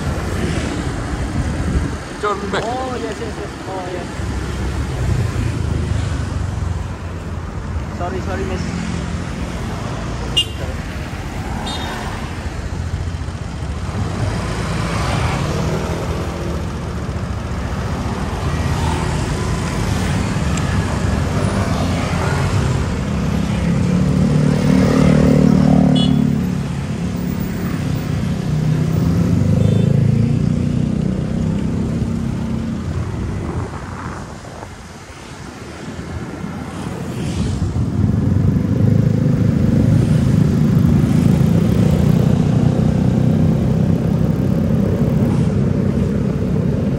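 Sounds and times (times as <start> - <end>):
motorbikes and cars passing: 0.0 - 46.9
road noise: 0.0 - 46.9.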